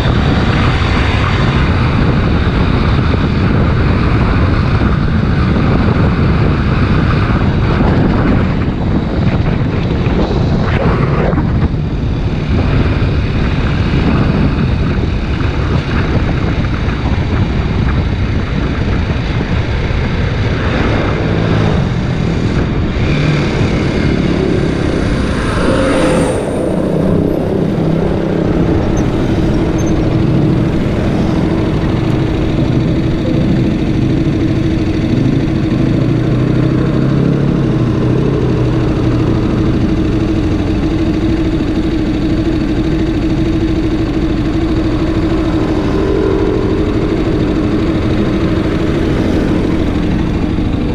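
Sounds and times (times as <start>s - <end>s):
motorcycle engine running: 0.0s - 50.9s
wind rush on microphone: 0.0s - 50.9s.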